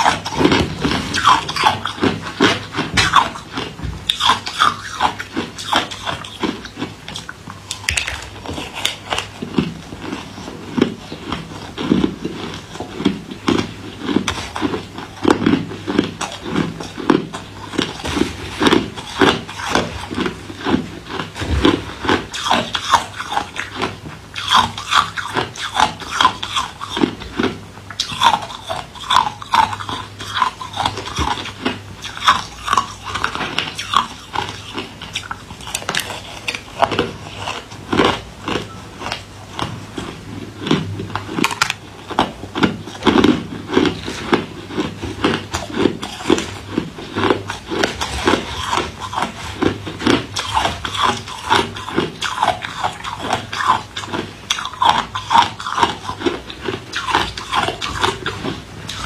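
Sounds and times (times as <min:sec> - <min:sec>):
person chewing ice: 0:00.0 - 0:59.0.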